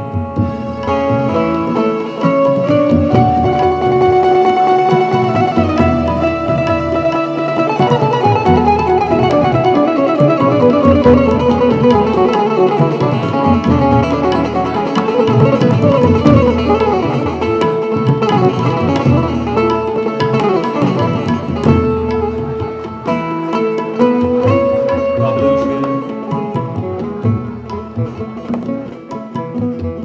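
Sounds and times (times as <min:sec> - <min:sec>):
plucked twanging keyed banjo: 0:00.0 - 0:30.0.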